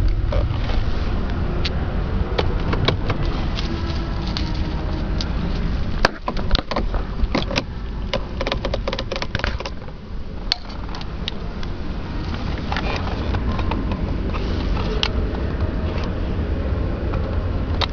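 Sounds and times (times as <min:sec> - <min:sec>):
steady low rumble: 0:00.0 - 0:17.9
handling clicks and knocks: 0:01.6 - 0:16.2.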